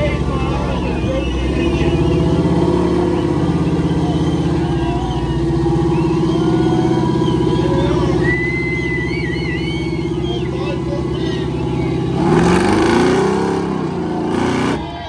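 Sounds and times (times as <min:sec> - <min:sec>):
faint crowd voices: 0:00.0 - 0:15.0
off-road vehicle engines running: 0:00.0 - 0:15.0.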